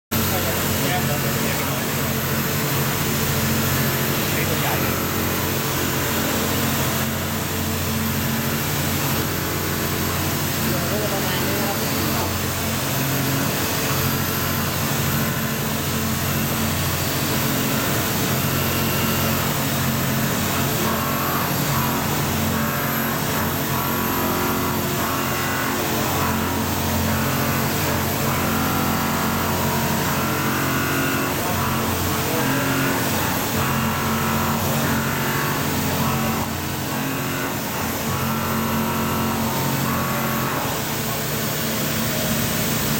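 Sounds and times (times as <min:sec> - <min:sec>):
milling machine cutting steel: 0:00.2 - 0:42.9.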